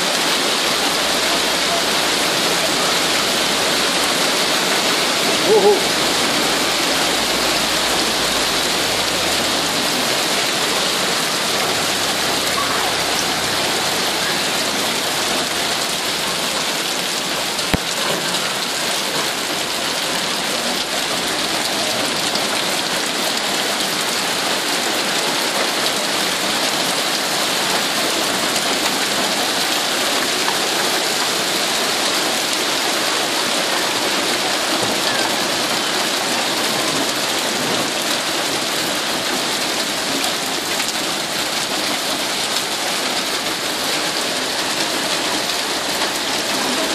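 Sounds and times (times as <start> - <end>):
hail and rain on pavement: 0.0 - 46.9.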